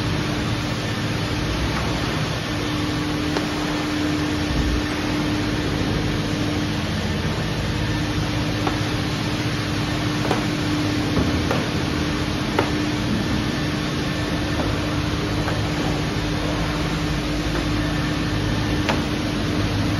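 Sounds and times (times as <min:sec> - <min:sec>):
car wash equipment humming: 0:00.0 - 0:19.9.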